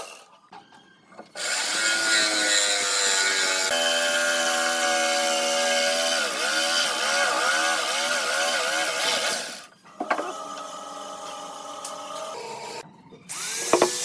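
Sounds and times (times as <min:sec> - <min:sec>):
power tool motor cutting wood: 0:01.4 - 0:14.0.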